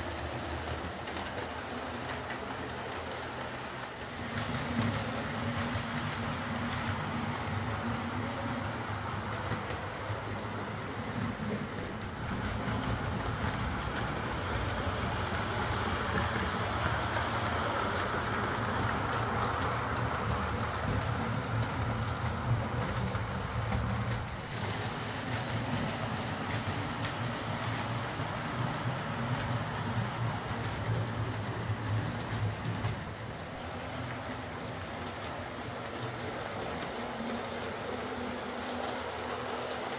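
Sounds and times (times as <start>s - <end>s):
model train wheels rumbling on rails: 0.0s - 39.9s.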